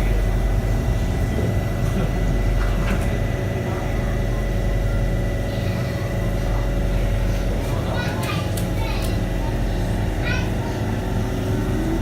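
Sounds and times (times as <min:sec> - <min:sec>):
train cabin rumble: 0:00.0 - 0:12.0.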